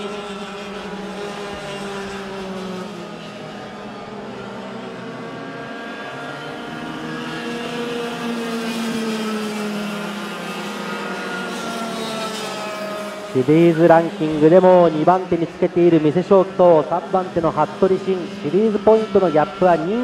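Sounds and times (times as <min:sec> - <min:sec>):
kart engines howling: 0:00.0 - 0:20.0.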